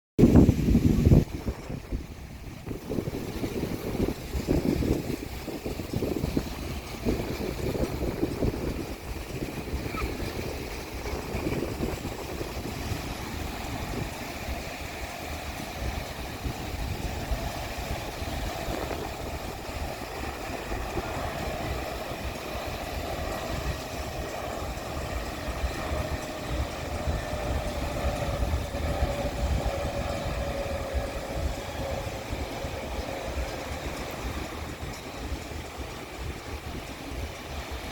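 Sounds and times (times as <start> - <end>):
jet engines rumbling and whining: 0.2 - 37.9.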